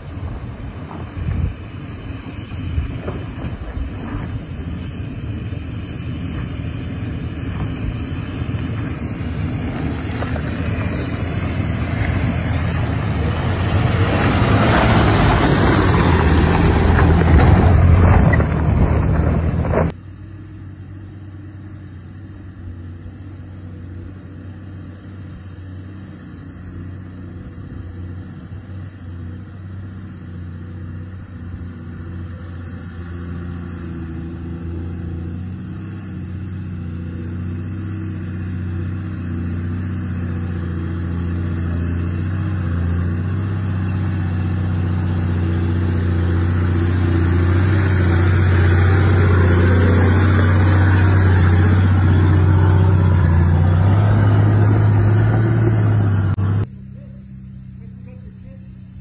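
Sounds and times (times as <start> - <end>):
tyres churning soil: 0.0 - 20.0, 20.6 - 56.7
distant steady engine note: 0.0 - 59.0
engine climbing dirt slope: 0.0 - 59.0.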